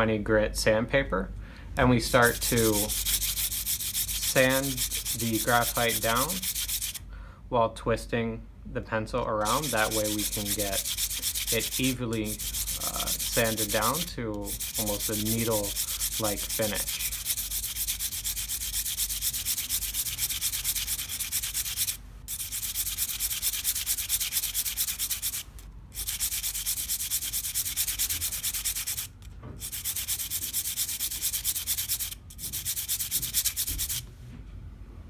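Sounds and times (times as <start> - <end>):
pencil rubbing on sandpaper: 2.1 - 7.0, 9.4 - 25.4, 26.0 - 34.0.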